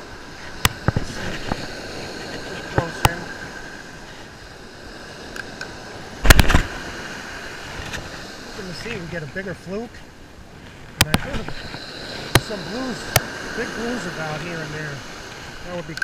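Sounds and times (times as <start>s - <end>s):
surf: 0.0s - 16.0s
wind: 0.0s - 16.0s.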